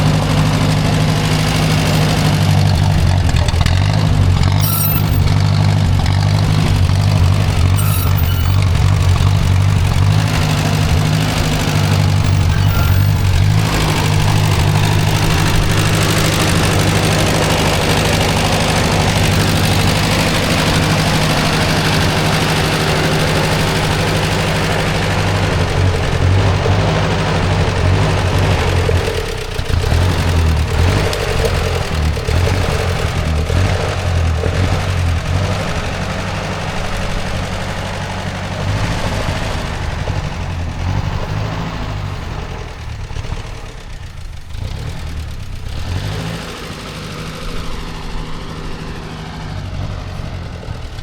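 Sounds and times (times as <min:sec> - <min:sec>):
tractor engine running: 0:00.0 - 0:51.0.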